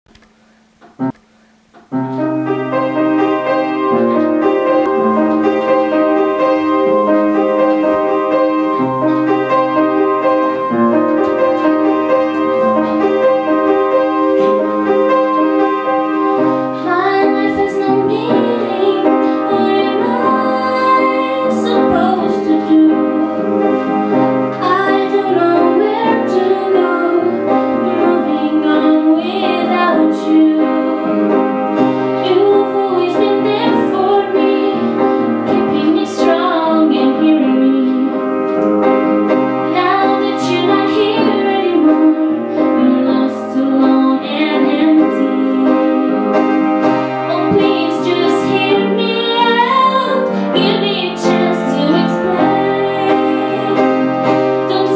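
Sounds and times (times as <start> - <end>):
piano chords: 0.1 - 54.9
wavering melody line: 2.1 - 54.9.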